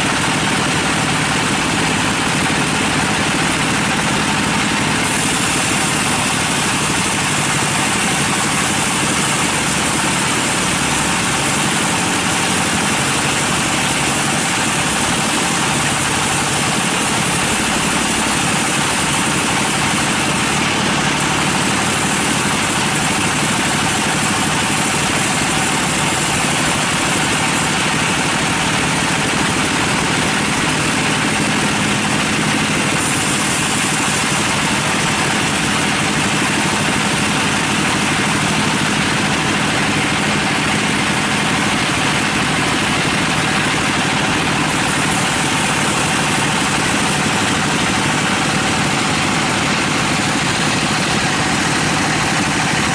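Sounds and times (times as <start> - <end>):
band saw cutting log: 0.0 - 52.9.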